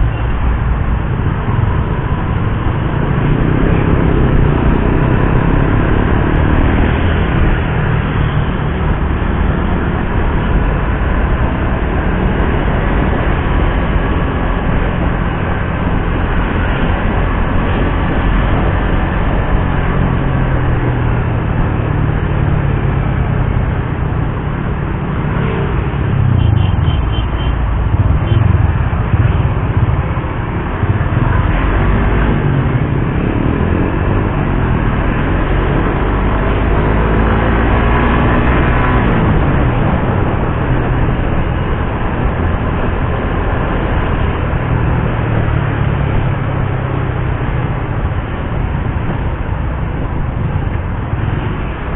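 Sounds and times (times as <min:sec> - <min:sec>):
rush of road noise: 0:00.0 - 0:51.9.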